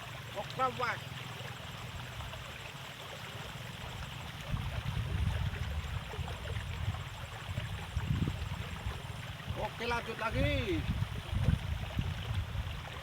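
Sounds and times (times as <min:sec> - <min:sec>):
water trickling in a ditch: 0:00.0 - 0:13.0.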